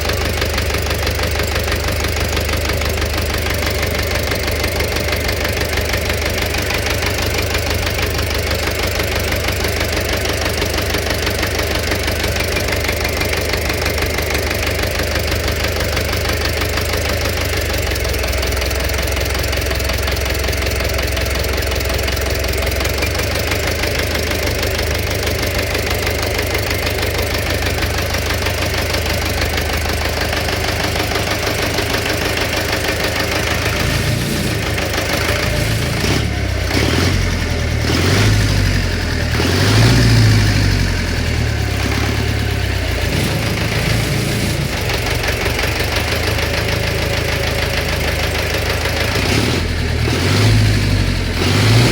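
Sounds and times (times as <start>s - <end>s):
engine idling: 0.0s - 51.9s
rapid engine knock: 0.0s - 51.9s.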